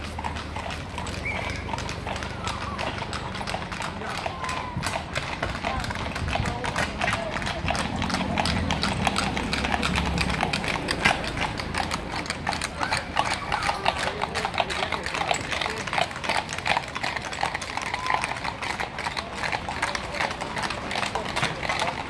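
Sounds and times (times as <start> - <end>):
hooves clip-clopping on asphalt: 0.0 - 22.0.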